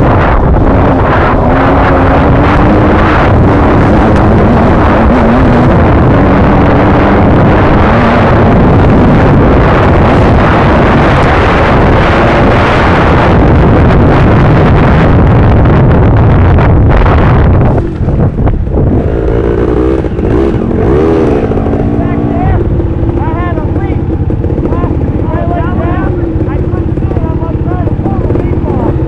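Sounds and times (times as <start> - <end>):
dirt bike engine revving: 0.0 - 29.0
wind buffeting microphone: 0.0 - 29.0.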